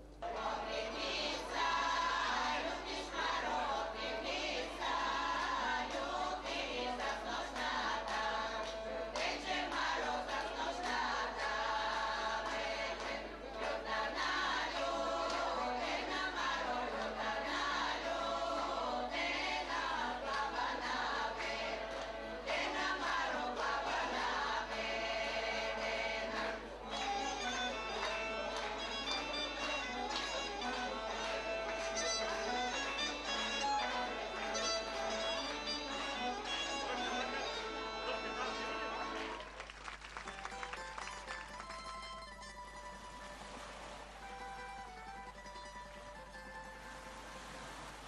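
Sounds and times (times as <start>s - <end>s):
women's choir singing: 0.2s - 39.3s.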